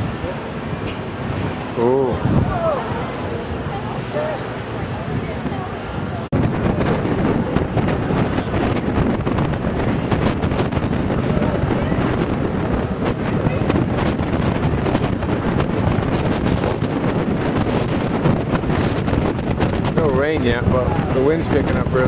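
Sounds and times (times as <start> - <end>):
storm wind on microphone: 0.0 - 22.0.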